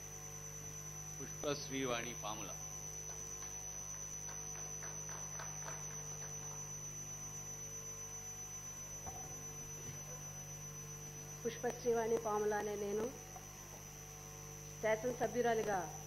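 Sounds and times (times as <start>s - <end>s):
electrical mains hum with whine: 0.0s - 16.0s.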